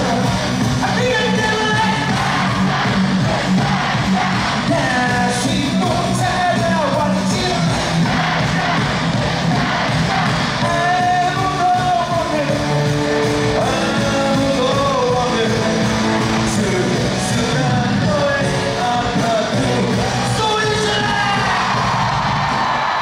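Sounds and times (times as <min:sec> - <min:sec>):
amplified rock band: 0:00.0 - 0:23.0.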